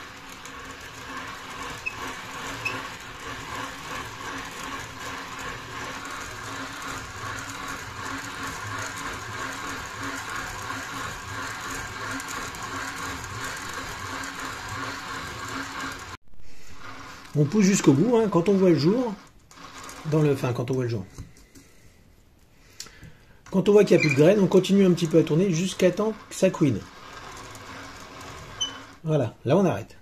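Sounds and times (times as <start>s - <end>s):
hand-cranked mill grinding seeds: 0.0s - 22.0s, 22.6s - 30.0s.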